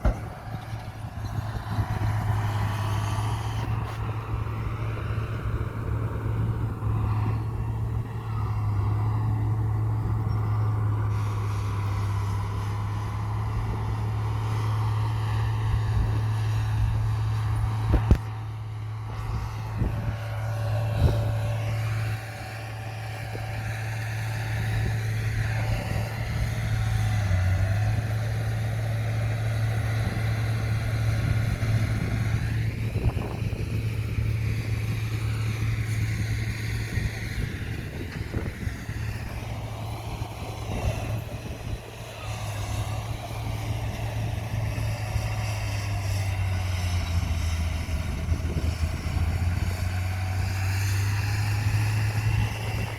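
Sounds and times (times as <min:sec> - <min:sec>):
bulldozer diesel engine: 0:00.0 - 0:52.9.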